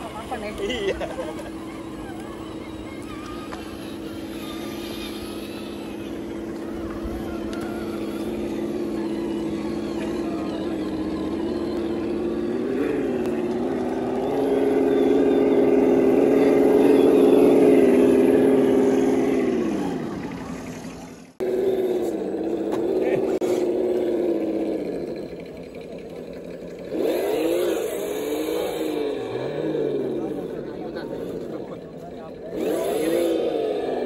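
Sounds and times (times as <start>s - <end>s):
electric motor hum: 0.0s - 34.0s.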